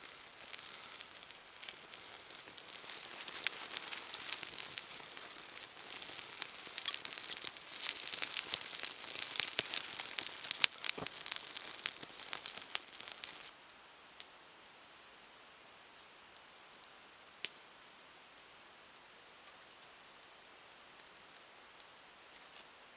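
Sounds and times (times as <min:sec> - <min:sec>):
fire crackling and popping: 0:00.0 - 0:17.7, 0:18.4 - 0:22.9.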